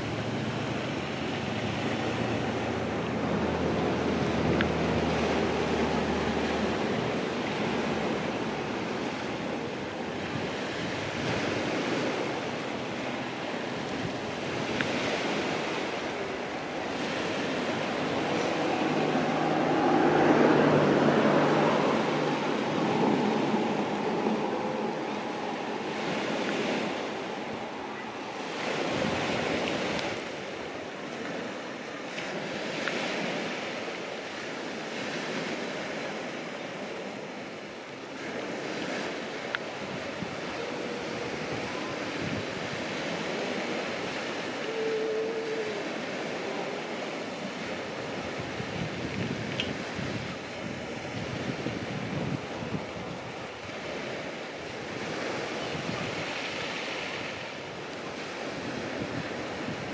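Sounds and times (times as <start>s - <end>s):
sea waves washing onto shore: 0.0s - 59.9s
wind: 0.0s - 59.9s.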